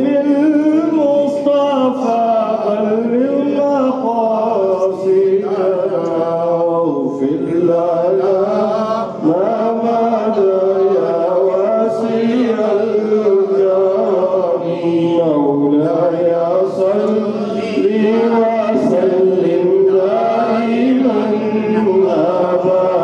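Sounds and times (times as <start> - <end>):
man chanting into microphone: 0.0 - 23.0.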